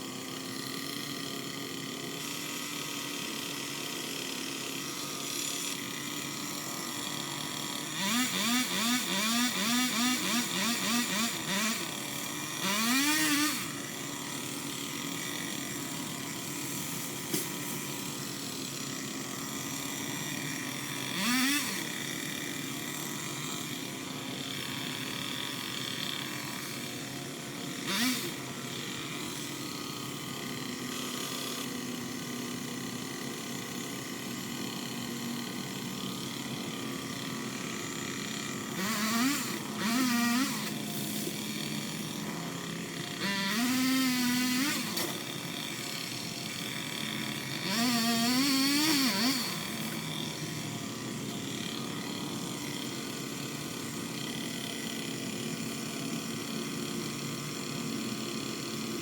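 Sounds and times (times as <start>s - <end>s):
small motor revving: 0.0s - 59.0s.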